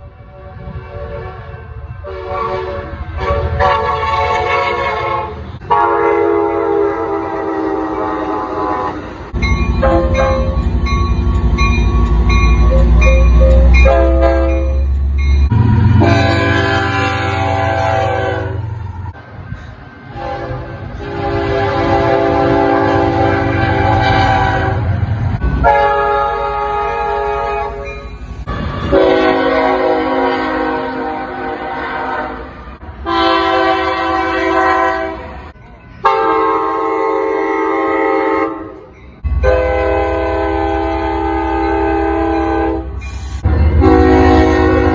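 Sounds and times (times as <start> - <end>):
locomotive air horn blasts: 0.1 - 9.2, 12.7 - 14.8, 15.6 - 18.8, 20.1 - 27.9, 28.5 - 35.4, 36.0 - 44.9.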